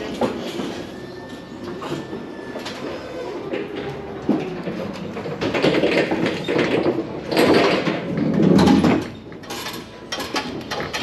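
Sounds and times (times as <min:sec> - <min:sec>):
pallet truck wheels rumbling: 0:00.0 - 0:11.0.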